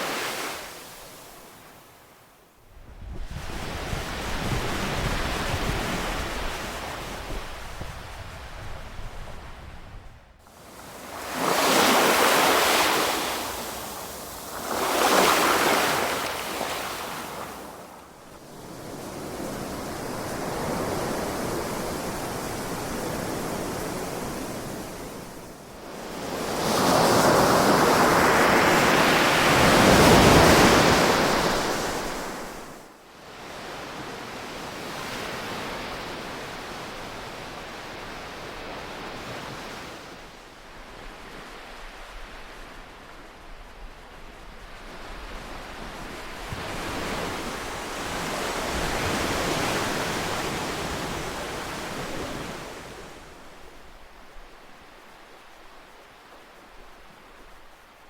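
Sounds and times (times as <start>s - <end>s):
ocean waves breaking on shore: 0.0s - 2.2s, 3.2s - 53.9s.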